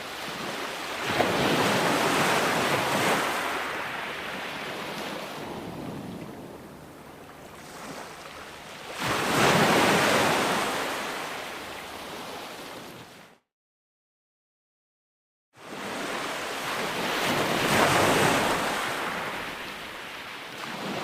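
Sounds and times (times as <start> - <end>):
ocean surf washing on beach: 0.0 - 13.1, 15.6 - 21.0.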